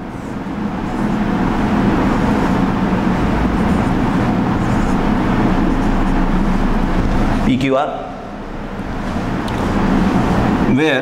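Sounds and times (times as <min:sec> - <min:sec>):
motor vehicle running: 0:00.0 - 0:10.7.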